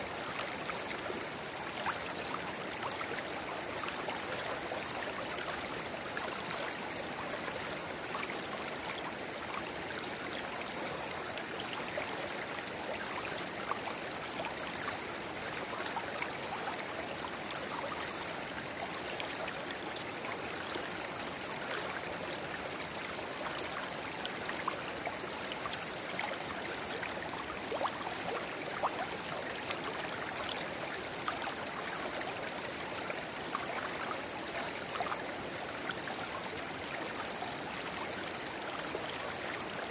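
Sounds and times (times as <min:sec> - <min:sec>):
river babbling: 0:00.0 - 0:39.9
stream trickling: 0:00.0 - 0:39.9.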